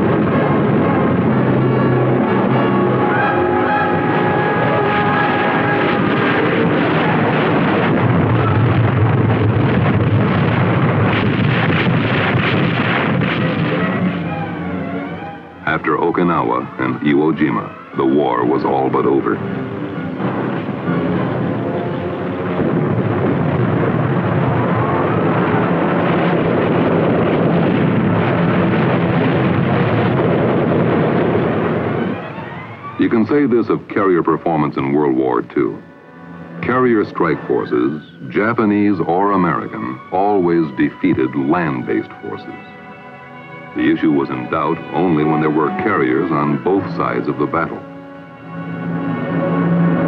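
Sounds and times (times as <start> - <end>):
aircraft engines droning: 0.0 - 50.0
rumble of explosions: 0.0 - 50.0
sharp bangs: 0.0 - 50.0.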